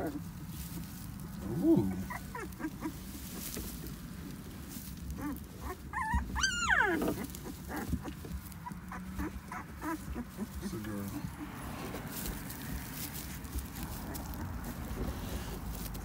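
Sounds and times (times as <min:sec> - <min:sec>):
puppies whimpering and squealing: 0:01.4 - 0:03.8, 0:04.7 - 0:16.0.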